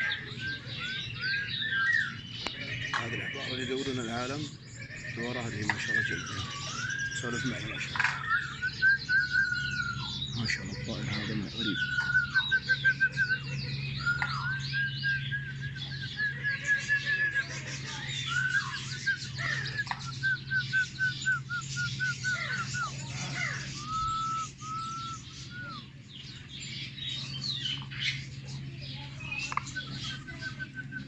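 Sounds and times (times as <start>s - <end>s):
many birds calling: 0.0s - 31.0s
steady low hum: 0.0s - 31.0s.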